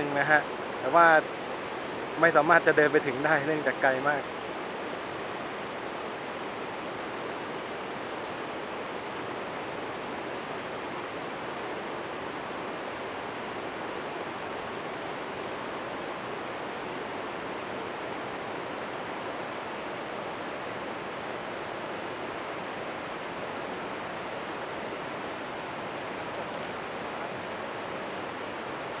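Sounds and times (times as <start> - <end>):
river rapids rushing: 0.0 - 29.0.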